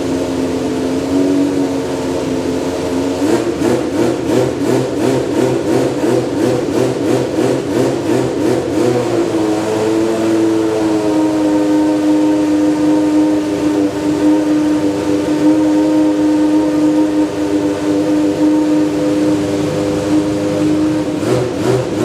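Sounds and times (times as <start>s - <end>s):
race car engine pulsing: 0.0s - 22.0s.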